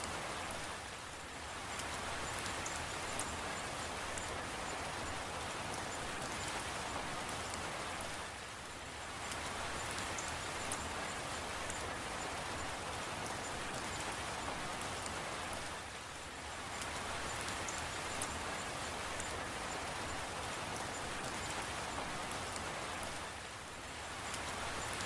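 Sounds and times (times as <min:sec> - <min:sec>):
raindrops ticking on a surface: 0:00.0 - 0:25.0
steady rain falling: 0:00.0 - 0:25.0.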